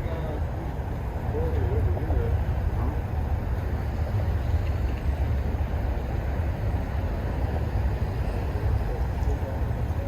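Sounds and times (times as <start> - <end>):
noisy hiss: 0.0 - 10.0.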